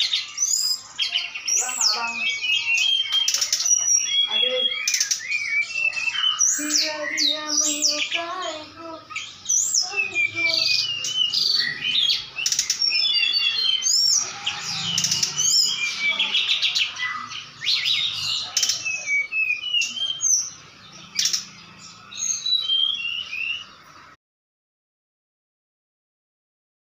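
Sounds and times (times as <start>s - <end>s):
bird singing whistled phrases: 0.0s - 21.5s, 22.1s - 23.7s.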